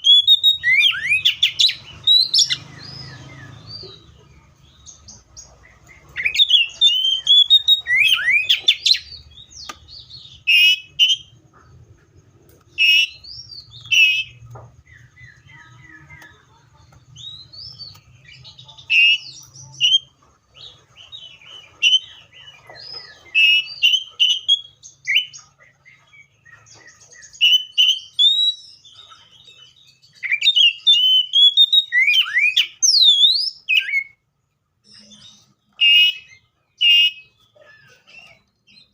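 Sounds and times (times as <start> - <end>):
bird whistling song: 0.0 - 11.4, 12.7 - 16.4, 17.2 - 34.2, 34.8 - 38.9.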